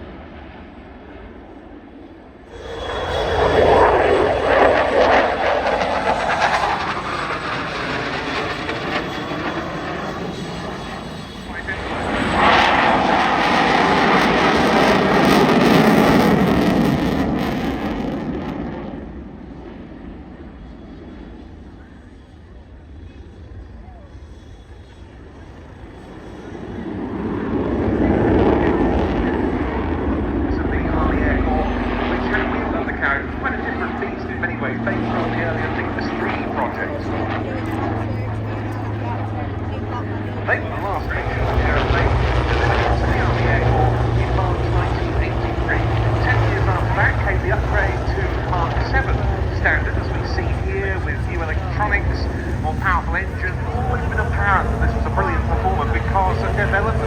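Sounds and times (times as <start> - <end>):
aircraft engine flying past: 0.0 - 57.0.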